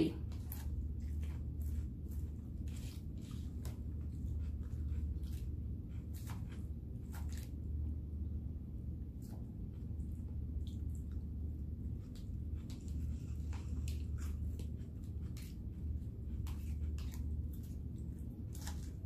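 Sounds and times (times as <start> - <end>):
low hum: 0.0 - 19.0
person chewing: 0.3 - 8.0, 9.1 - 19.0.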